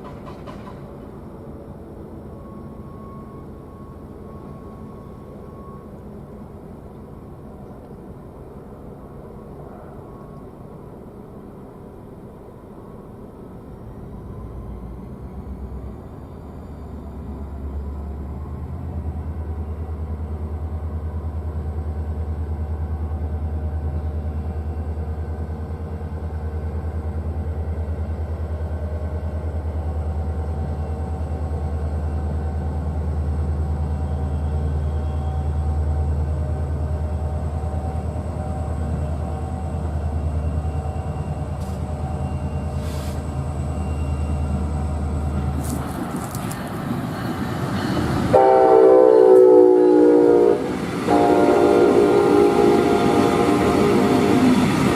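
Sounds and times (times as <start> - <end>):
locomotive engine droning: 0.0 - 54.9.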